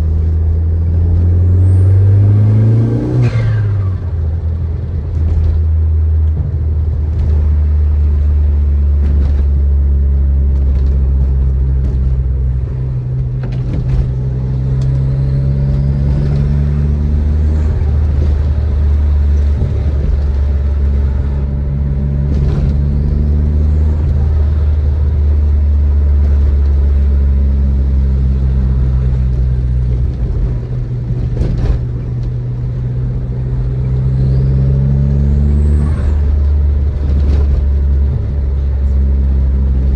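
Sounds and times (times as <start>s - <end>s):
car engine cruising drone: 0.0s - 39.9s.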